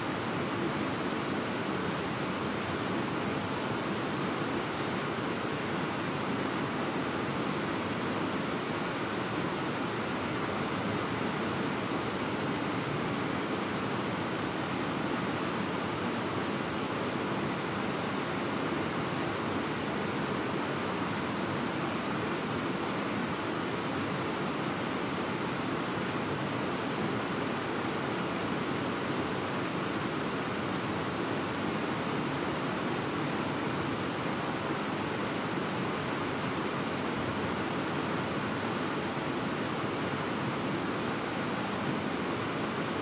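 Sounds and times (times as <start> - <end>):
river rushing over rapids: 0.0 - 43.0.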